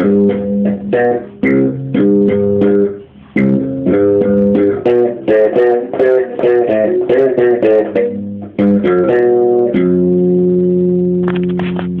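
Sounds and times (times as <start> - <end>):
slap bass guitar notes: 0.0 - 12.0.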